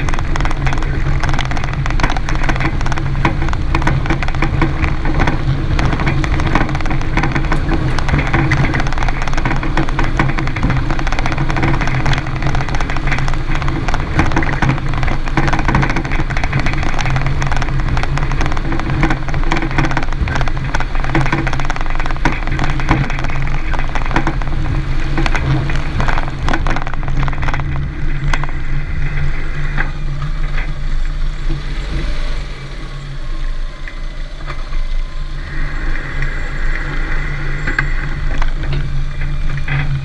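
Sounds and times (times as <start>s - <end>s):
car driving with low drone: 0.0s - 40.0s
suspension knocks and rattles: 0.0s - 40.0s.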